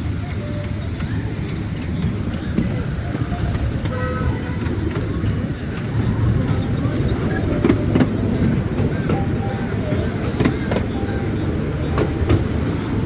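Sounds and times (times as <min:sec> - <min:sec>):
train carriages rumbling: 0:00.0 - 0:13.0.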